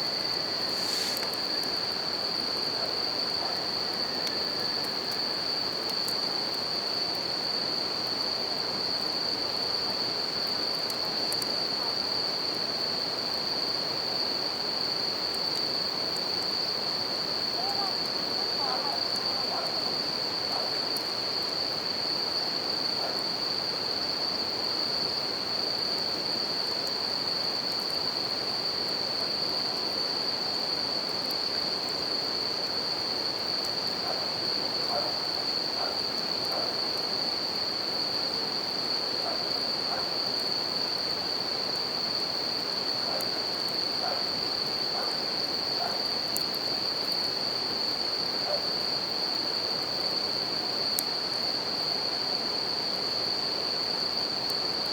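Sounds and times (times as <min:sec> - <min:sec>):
campfire crackles: 0:00.0 - 0:51.5.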